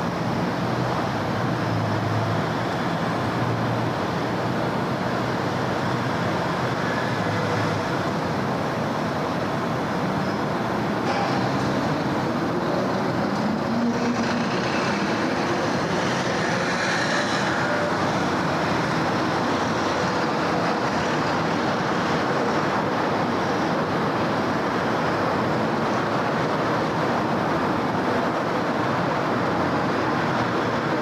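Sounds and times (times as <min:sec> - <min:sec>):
steady road traffic: 0:00.0 - 0:31.0.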